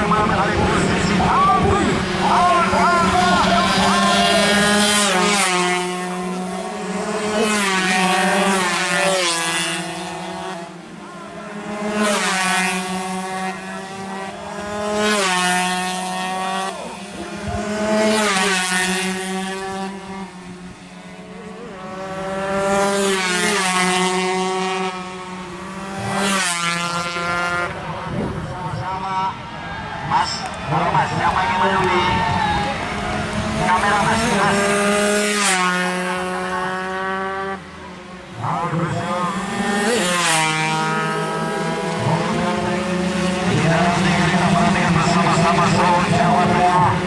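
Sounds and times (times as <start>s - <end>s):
motorcycles passing at high revs: 0.0s - 47.0s.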